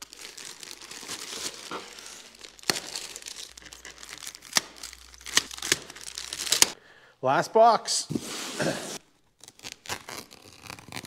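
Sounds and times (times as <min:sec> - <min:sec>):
paper crinkling and tearing: 0:00.0 - 0:06.8, 0:08.2 - 0:11.0.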